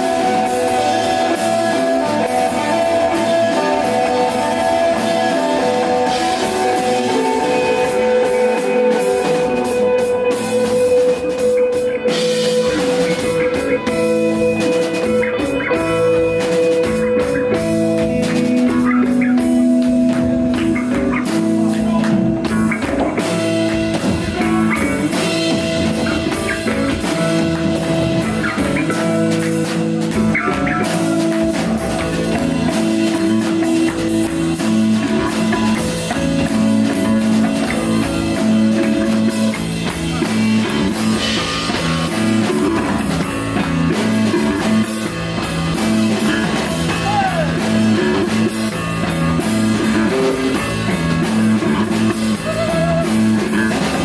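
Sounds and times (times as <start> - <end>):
bass: 0.0 - 54.0
drum kit with cymbals: 0.0 - 54.0
electric guitar long notes: 0.0 - 54.0.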